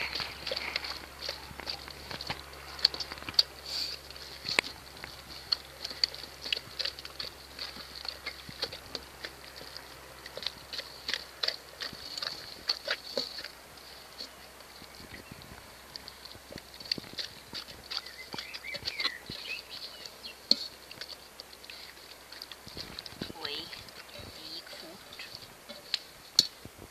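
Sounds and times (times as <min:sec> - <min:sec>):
dog eating from metal bowl: 0:00.0 - 0:26.9.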